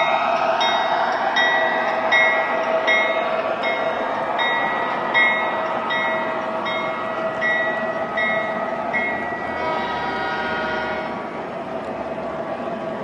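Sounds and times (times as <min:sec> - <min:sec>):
model train cars rumbling on track: 0:00.0 - 0:13.0.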